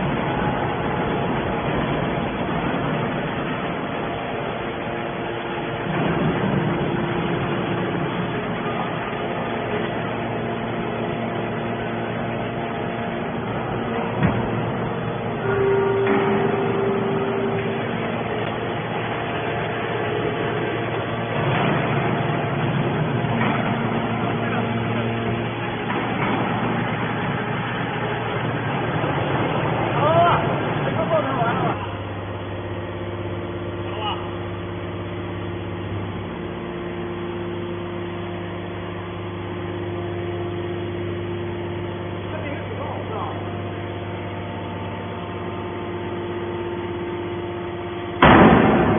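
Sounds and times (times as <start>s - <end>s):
hydraulic baler machine drone: 0.0s - 48.9s
steady machine whine: 0.0s - 48.9s.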